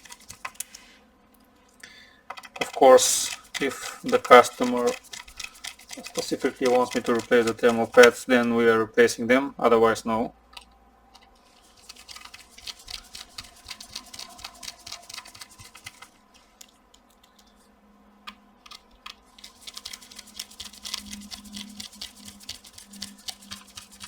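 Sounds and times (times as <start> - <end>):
small parts clicking and rustling: 0.0 - 0.9, 2.3 - 8.4, 10.5 - 17.7, 18.3 - 24.0.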